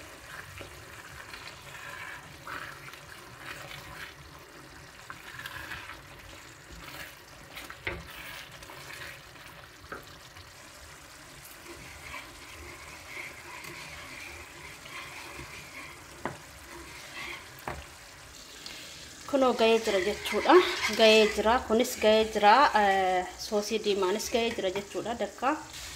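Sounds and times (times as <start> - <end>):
food sizzling in a pan: 0.0 - 25.9.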